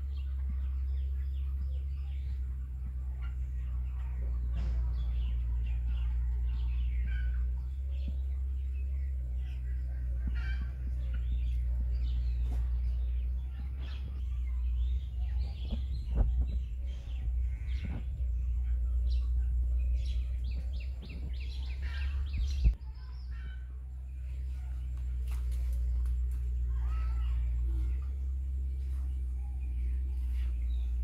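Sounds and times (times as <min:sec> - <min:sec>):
chickens cheeping: 0:00.0 - 0:31.0
steady low hum: 0:00.0 - 0:31.0.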